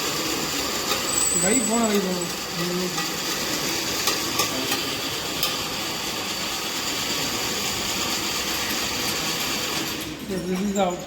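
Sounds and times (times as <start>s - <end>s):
filament extruder motor running: 0.0s - 10.2s.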